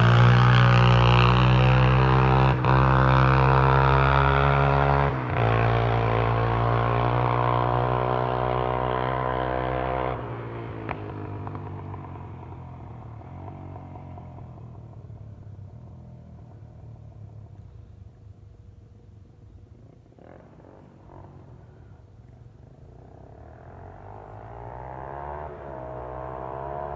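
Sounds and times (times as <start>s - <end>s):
atv engine running: 0.0s - 26.9s.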